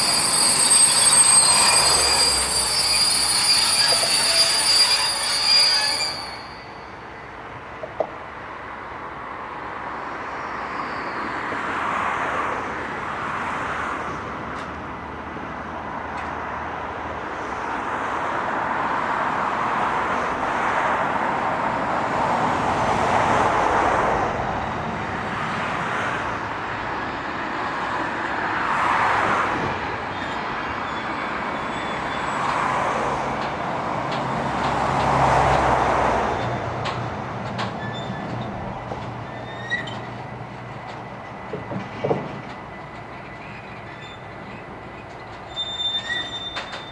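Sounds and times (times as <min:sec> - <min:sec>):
train wheels rumbling on rails: 0:00.0 - 0:10.4, 0:11.2 - 0:46.9.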